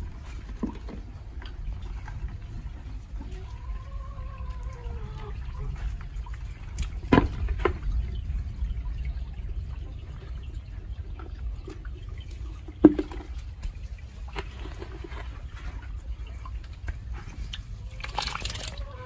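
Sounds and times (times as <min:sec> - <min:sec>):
water rushing through channel: 0:00.0 - 0:19.0.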